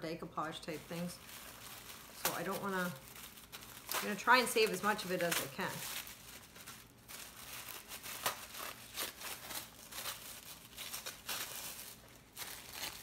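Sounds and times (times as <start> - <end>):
tissue paper rustling: 0.6 - 13.0.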